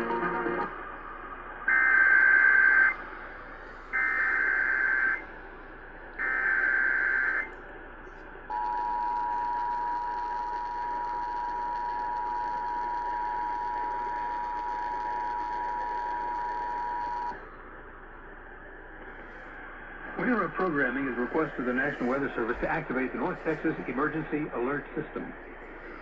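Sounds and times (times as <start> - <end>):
radio hiss: 0.0 - 26.0.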